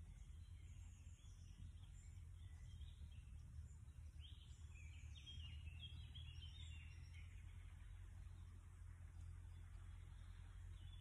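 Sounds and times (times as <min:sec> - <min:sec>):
faint woodland birdsong: 0:00.0 - 0:11.0
low steady rumble: 0:00.0 - 0:11.0.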